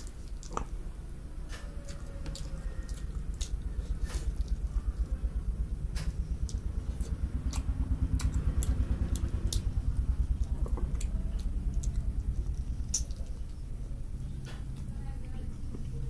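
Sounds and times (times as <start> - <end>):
wet chewing clicks and smacks: 0.0 - 14.9
pulsing low hum: 0.0 - 16.0.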